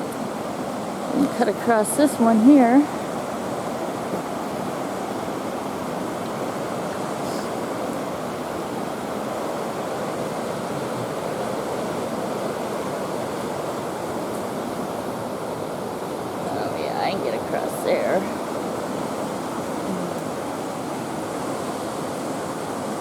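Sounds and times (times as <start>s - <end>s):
water flowing over rocks: 0.0s - 23.0s.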